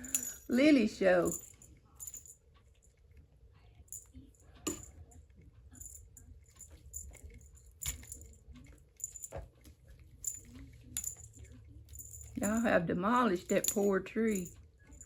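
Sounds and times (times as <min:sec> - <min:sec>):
light jingling: 0:00.0 - 0:03.2, 0:03.8 - 0:15.0.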